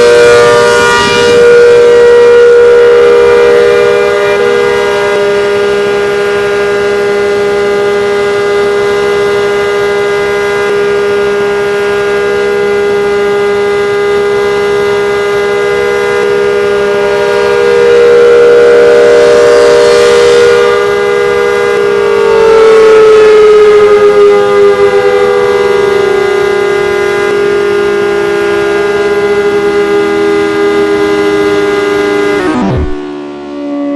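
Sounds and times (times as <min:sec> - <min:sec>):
civil defense siren two-note tone: 0:00.0 - 0:33.9.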